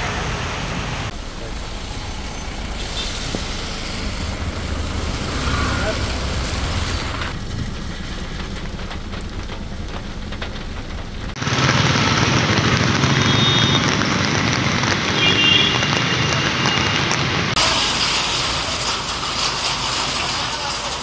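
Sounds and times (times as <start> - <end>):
heavy rain falling: 0.0 - 21.0
traffic on wet street: 0.0 - 21.0.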